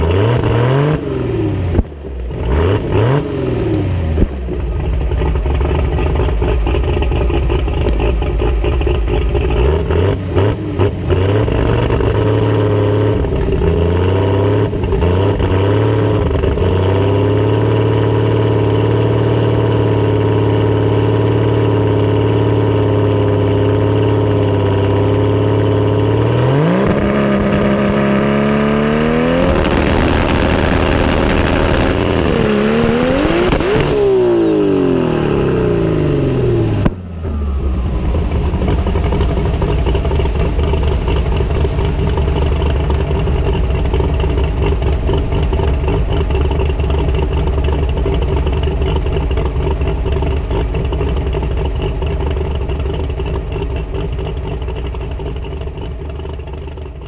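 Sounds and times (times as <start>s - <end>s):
car engine revving: 0.0s - 55.9s
engine idling with deep rumble: 0.0s - 57.0s.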